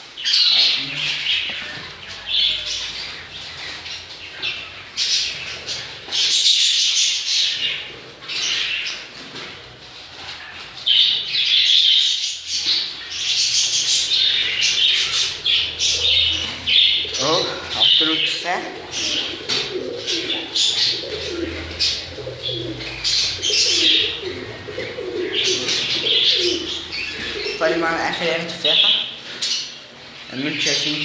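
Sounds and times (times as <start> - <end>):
birds chirping and squawking: 0.0 - 31.0.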